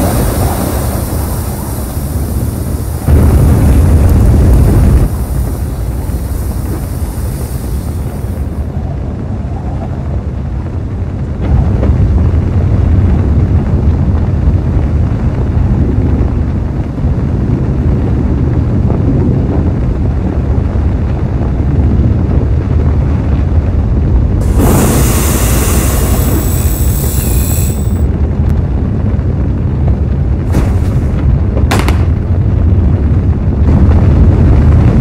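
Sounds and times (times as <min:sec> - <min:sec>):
rocket thrusters rumbling: 0:00.0 - 0:35.0.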